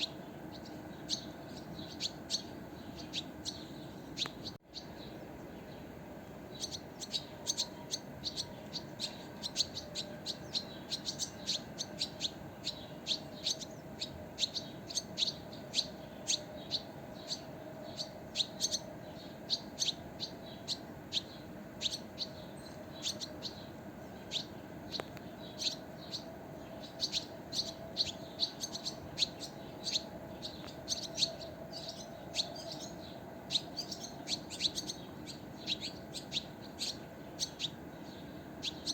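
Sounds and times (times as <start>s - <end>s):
faint steady hum: 0.0s - 38.9s
small birds chirping: 0.0s - 38.9s.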